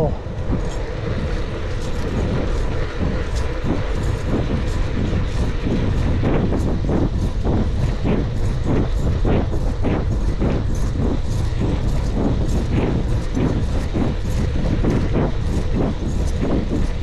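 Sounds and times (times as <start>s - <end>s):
wind buffeting microphone: 0.0s - 17.0s
bicycle rolling on rough asphalt: 0.2s - 17.0s.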